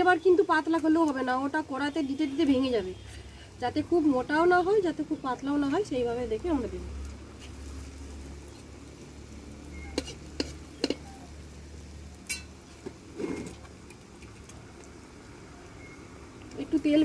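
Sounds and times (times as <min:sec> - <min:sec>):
fritters sizzling in hot oil: 0:00.0 - 0:17.0.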